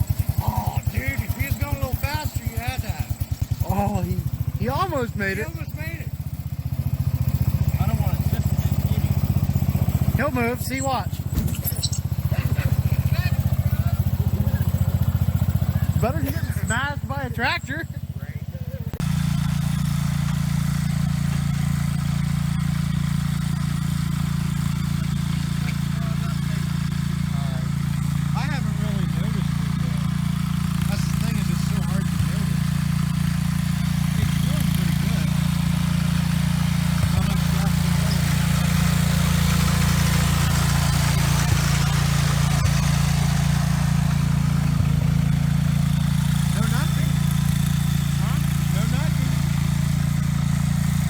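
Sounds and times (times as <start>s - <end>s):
garden tractor engine running: 0.0s - 51.0s.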